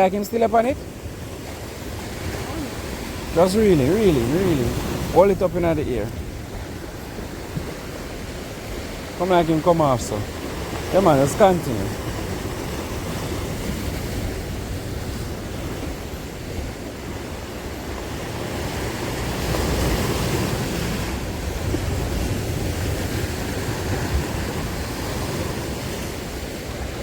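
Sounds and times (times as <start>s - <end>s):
sea waves washing in: 0.0s - 27.0s
wind buffeting microphone: 0.0s - 27.0s.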